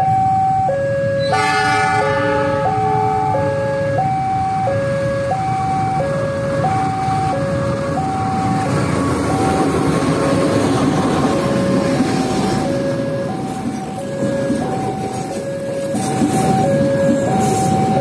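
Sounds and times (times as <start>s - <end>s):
passing train rumble and rail noise: 0.0s - 18.0s
two-tone warning alarm: 0.0s - 18.0s.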